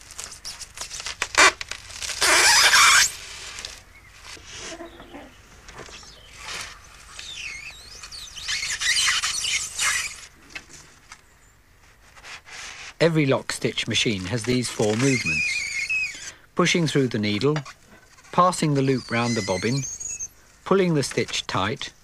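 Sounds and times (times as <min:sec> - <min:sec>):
polystyrene squeaking and scraping: 0:00.0 - 0:11.2, 0:11.8 - 0:22.0.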